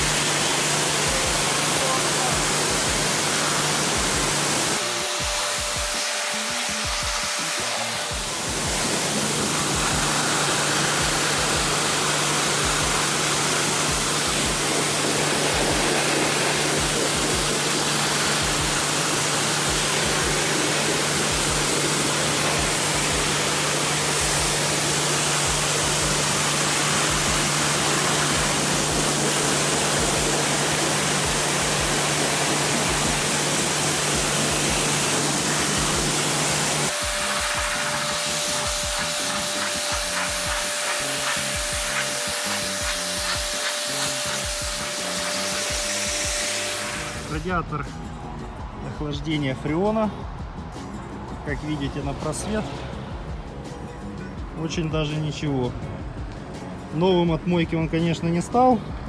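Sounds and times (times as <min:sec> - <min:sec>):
pressure washer spray hissing: 0:00.0 - 0:47.9
steady low hum: 0:00.0 - 0:48.7.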